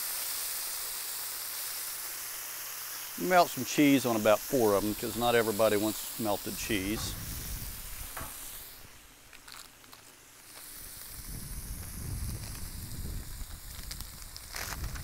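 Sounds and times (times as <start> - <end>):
meat sizzling on a griddle: 0.0 - 15.0.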